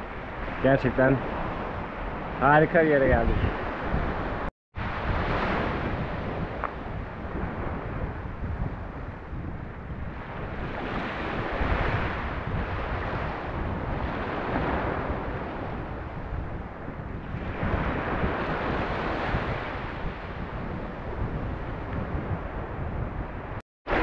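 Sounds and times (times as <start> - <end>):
sea waves washing in: 0.0 - 24.0
wind buffeting microphone: 0.0 - 24.0.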